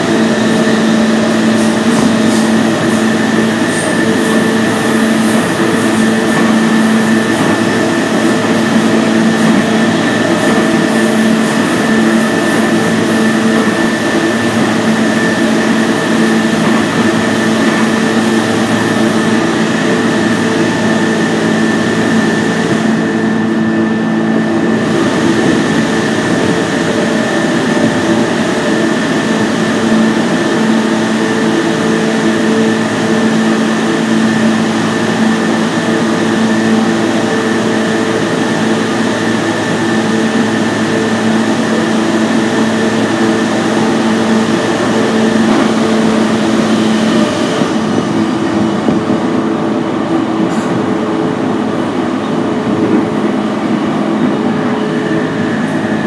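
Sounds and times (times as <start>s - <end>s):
high steady drive tone: 0.0s - 56.0s
train wheels rumbling on rail: 0.0s - 56.0s.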